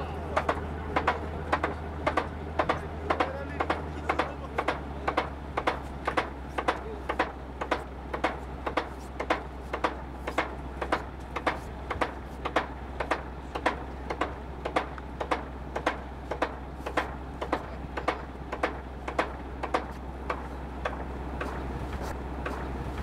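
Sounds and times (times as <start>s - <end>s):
low engine hum: 0.0s - 23.0s
rapid even clicking: 0.4s - 23.0s.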